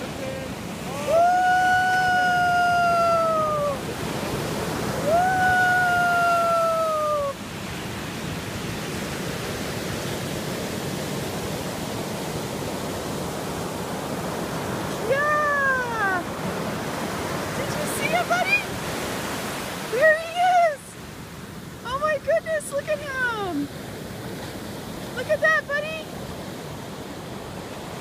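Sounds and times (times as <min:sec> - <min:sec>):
ocean surf: 0:00.0 - 0:28.0.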